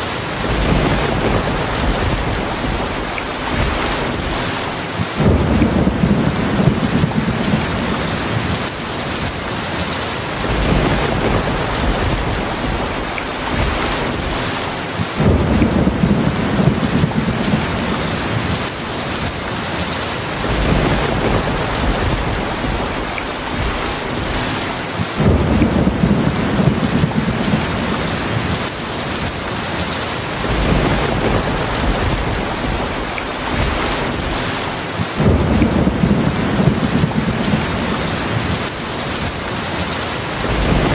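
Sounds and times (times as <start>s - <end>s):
heavy rain falling: 0.0s - 40.9s
thunder rolling: 0.4s - 8.7s, 10.4s - 19.3s, 20.3s - 28.6s, 30.3s - 39.3s, 40.4s - 40.9s.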